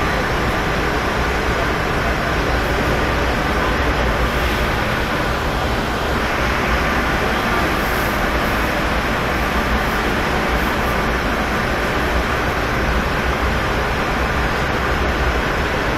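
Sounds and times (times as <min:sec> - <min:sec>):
loud rushing rumble: 0:00.0 - 0:15.6.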